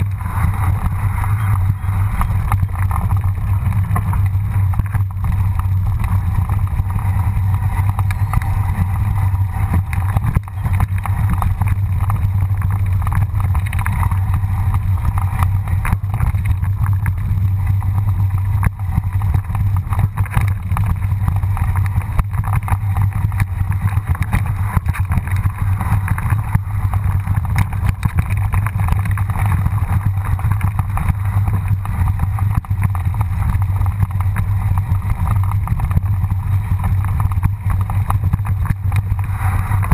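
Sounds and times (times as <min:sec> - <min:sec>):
bike tyres clattering on stones: 0:00.0 - 0:39.9
wind and vibration rumble: 0:00.0 - 0:39.9.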